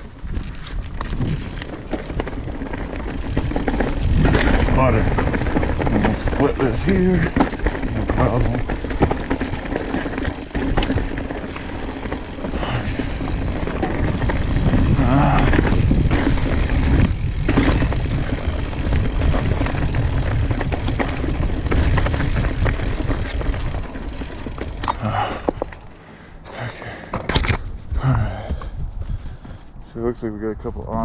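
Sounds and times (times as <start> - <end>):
bike rattling over rocks: 0.0 - 26.5
tyre and wind rumble: 0.0 - 31.0.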